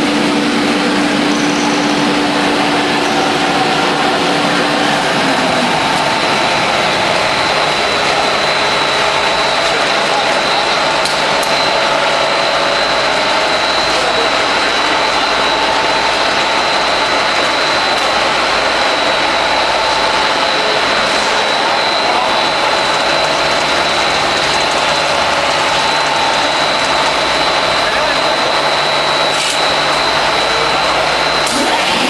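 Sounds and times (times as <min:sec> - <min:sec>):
constant high whine: 0:00.0 - 0:32.0
loud factory drone: 0:00.0 - 0:32.0.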